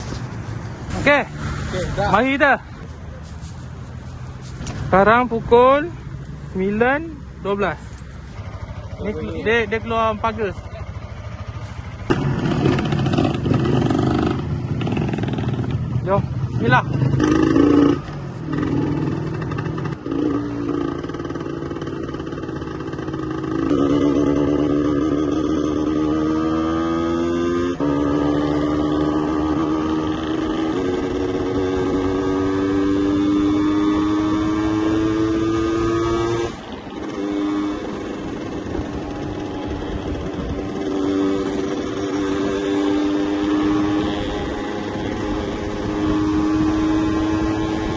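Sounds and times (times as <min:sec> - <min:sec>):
motorcycle engine accelerating: 0:04.3 - 0:47.9.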